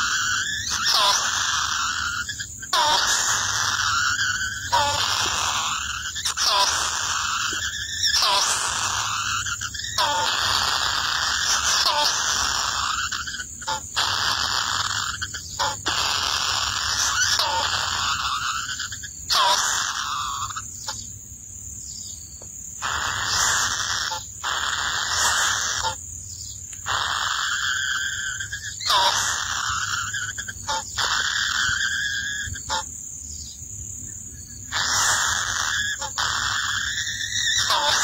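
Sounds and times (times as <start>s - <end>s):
bird chicks raspy calls: 0.0s - 38.0s.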